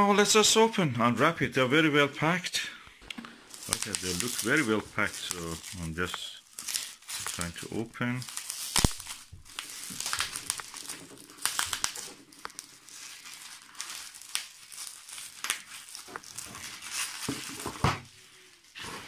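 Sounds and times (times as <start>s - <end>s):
plastic wrap crinkling: 3.1s - 19.0s.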